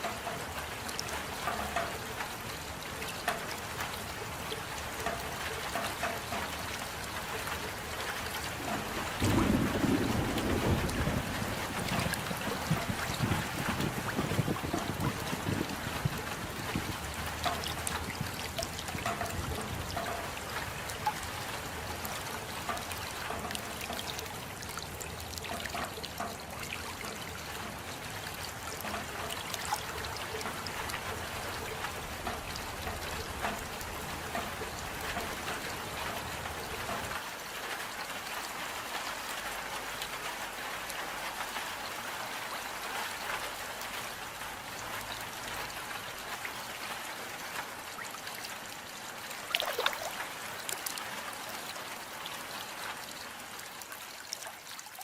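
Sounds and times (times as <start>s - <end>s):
rain pattering: 0.0s - 55.0s
water trickling: 0.0s - 55.0s.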